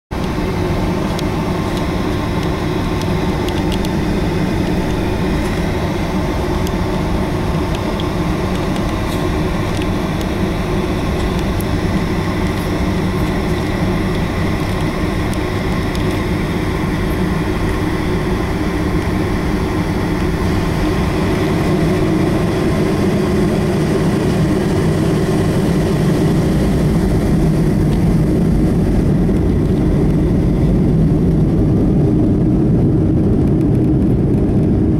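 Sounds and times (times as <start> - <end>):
jet engines humming in cabin: 0.1 - 34.9.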